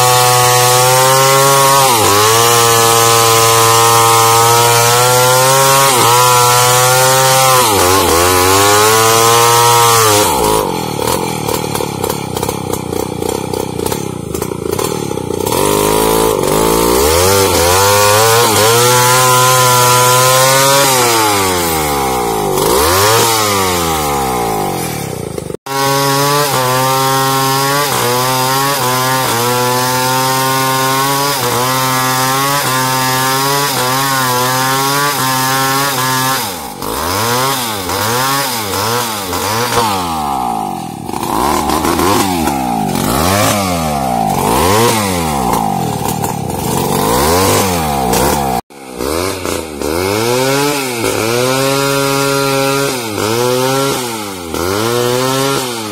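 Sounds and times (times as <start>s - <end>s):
chainsaw running and cutting: 0.0s - 55.9s.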